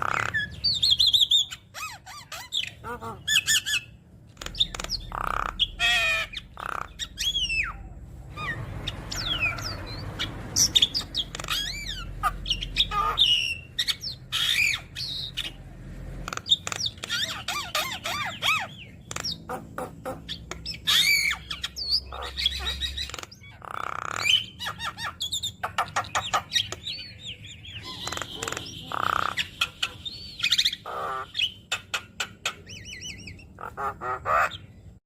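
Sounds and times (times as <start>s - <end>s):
myna bird singing: 0.0s - 35.0s.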